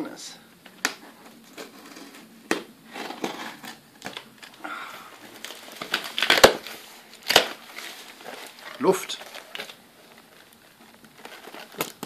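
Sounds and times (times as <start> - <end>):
cardboard box rustling and crinkling: 1.0 - 4.6, 5.2 - 12.0.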